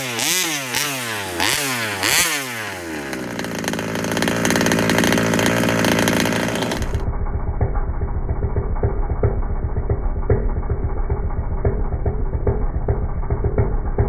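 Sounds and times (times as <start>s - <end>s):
two-stroke engine revving and idling: 0.0s - 14.0s.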